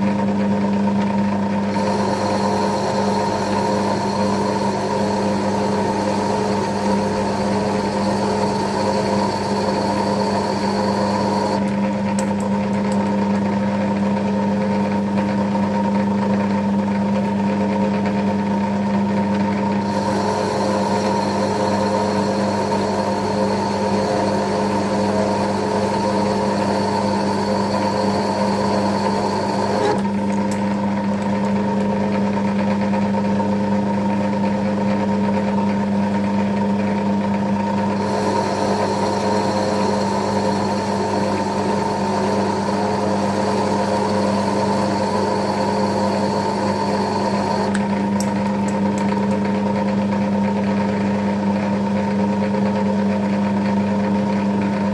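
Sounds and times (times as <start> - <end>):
lathe motor and gear hum: 0.0 - 54.9.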